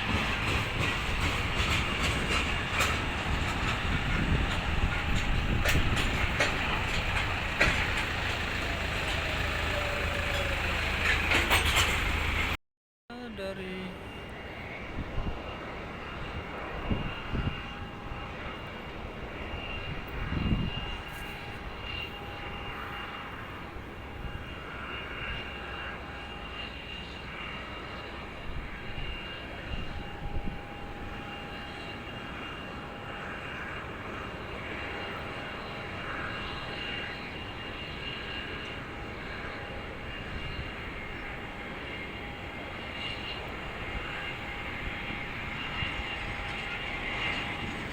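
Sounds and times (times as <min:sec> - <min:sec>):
jet engines whining and rushing: 0:00.0 - 0:12.6, 0:13.6 - 0:47.9.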